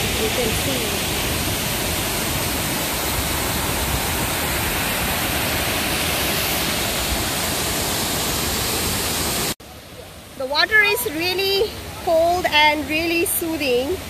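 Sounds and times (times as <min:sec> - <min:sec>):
waterfall rushing over rocks: 0:00.0 - 0:14.0.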